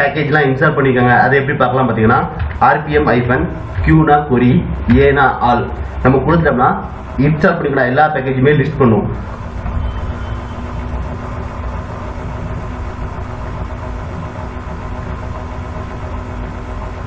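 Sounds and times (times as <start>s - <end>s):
steady low background hum: 0.0s - 17.0s.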